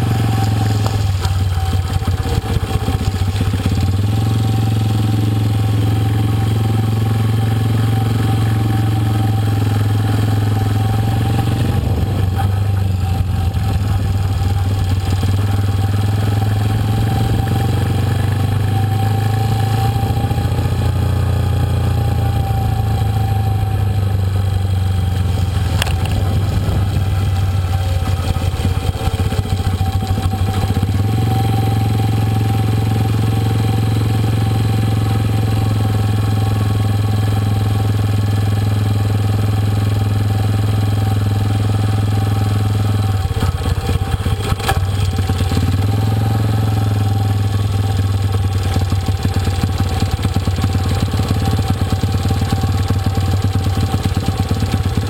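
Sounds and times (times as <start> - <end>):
engine humming: 0.0 - 47.8.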